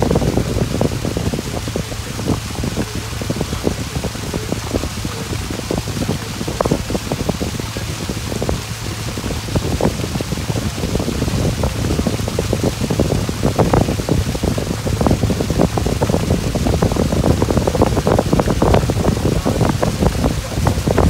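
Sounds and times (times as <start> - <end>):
low rumble: 0.0 - 21.0
water splashing and rushing: 0.0 - 21.0
wind buffeting microphone: 0.0 - 21.0.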